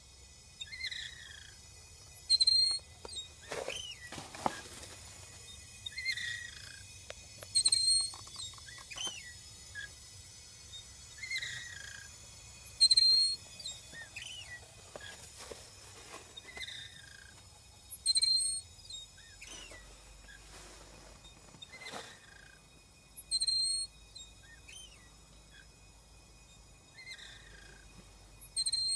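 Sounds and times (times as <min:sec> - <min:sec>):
sharp gas meter chirp: 0:00.0 - 0:28.9
gas meter squeaking: 0:00.5 - 0:28.9.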